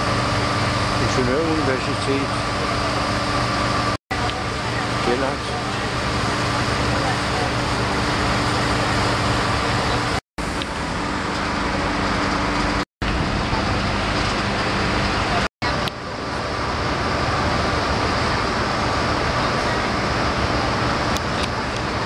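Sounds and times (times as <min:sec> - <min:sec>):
boat engine humming: 0:00.0 - 0:22.0
broad even noise on deck: 0:00.0 - 0:22.0.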